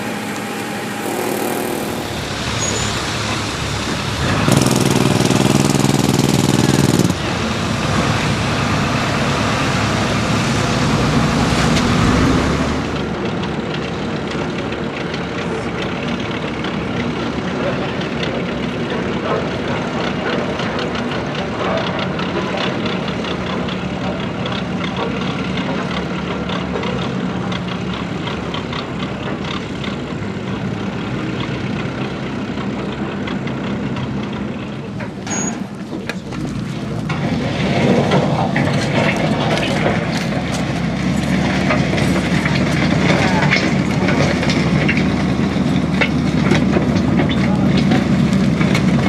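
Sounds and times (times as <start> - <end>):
heavy diesel engines running: 0.0 - 49.0.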